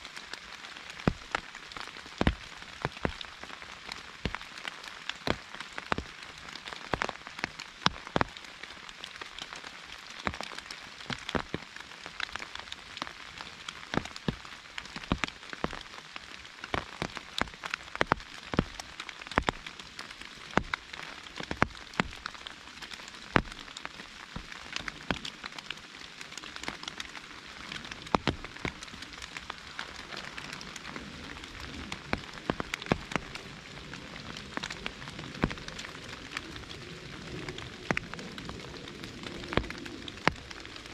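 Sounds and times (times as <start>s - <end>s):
rain on an umbrella: 0.0s - 40.9s.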